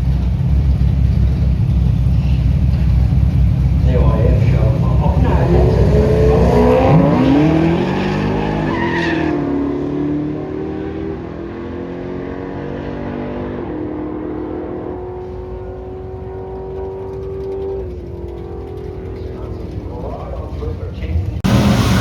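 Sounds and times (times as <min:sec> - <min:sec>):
racing car engine accelerating: 0:01.3 - 0:22.0.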